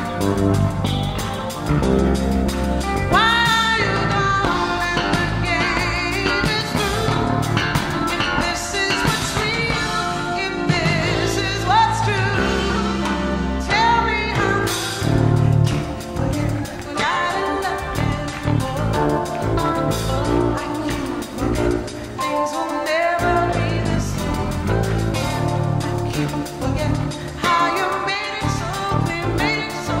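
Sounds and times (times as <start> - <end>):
live soul-pop band music: 0.0 - 30.0.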